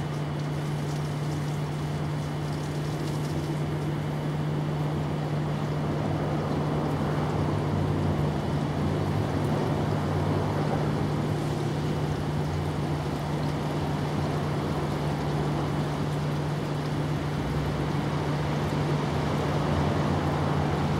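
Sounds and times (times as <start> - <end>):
machine hum with rushing noise: 0.0 - 20.9.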